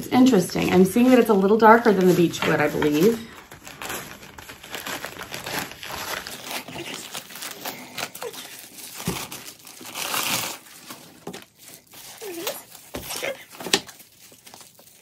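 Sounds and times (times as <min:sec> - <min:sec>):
tissue paper crinkling and rustling: 0:00.4 - 0:15.0.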